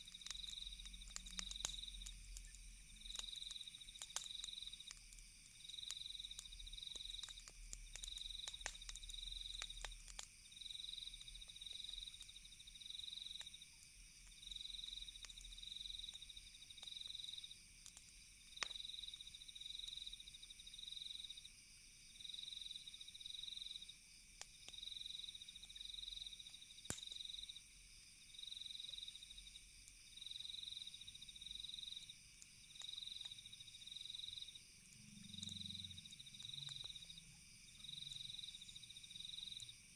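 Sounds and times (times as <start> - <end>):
campfire crackling and popping: 0.0 - 21.2, 24.1 - 39.9
crickets chirping: 0.0 - 39.9.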